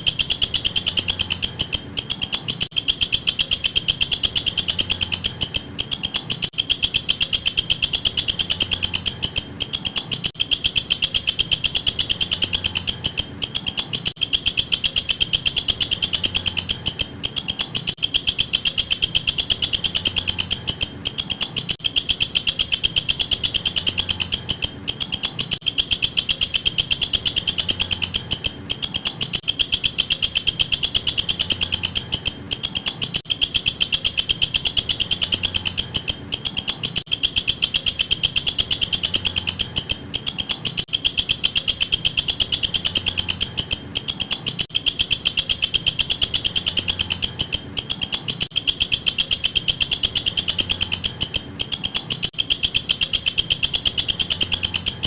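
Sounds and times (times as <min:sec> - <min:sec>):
insect high-pitched pulsing chirr: 0:00.0 - 0:55.0.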